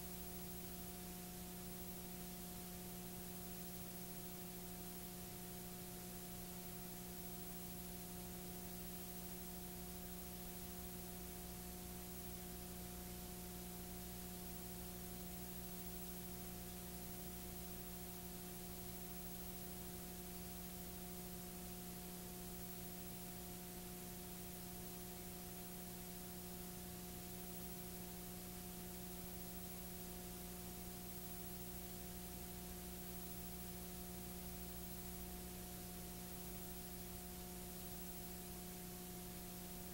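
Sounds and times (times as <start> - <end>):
low electrical hum: 0.0 - 39.9
videotape hiss: 0.0 - 39.9.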